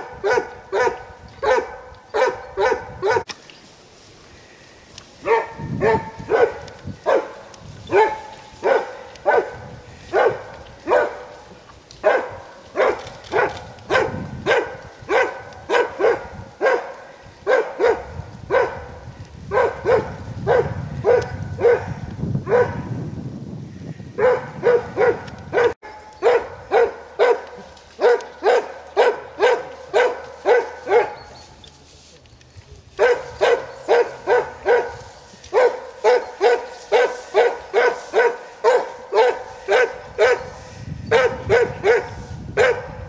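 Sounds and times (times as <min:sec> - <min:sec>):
dog barking: 0:00.0 - 0:03.3, 0:05.2 - 0:11.4, 0:12.0 - 0:22.9, 0:24.2 - 0:31.3, 0:33.0 - 0:43.0.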